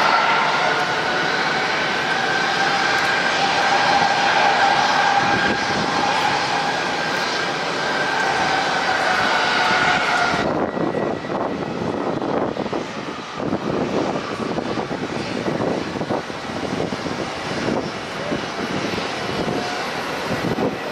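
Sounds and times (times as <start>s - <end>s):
high jet engine whine: 0.0s - 20.9s
jet engines roaring: 0.0s - 20.9s.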